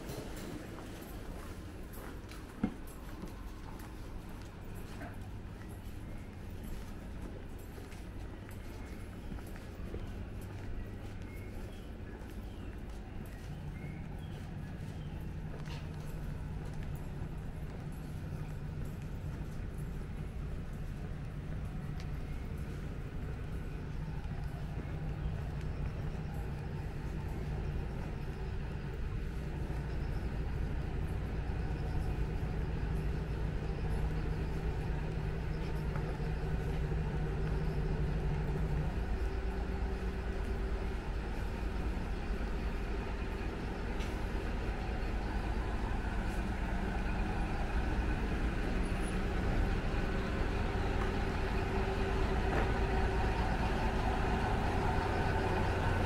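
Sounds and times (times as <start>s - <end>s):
diesel railcar engine drone: 0.0s - 56.0s.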